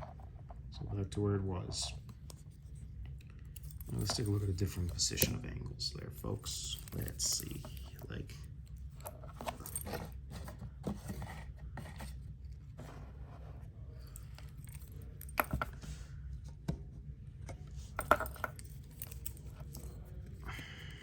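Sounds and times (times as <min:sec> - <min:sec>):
watch being handled: 0:02.0 - 0:05.5, 0:06.1 - 0:16.6, 0:17.4 - 0:21.0.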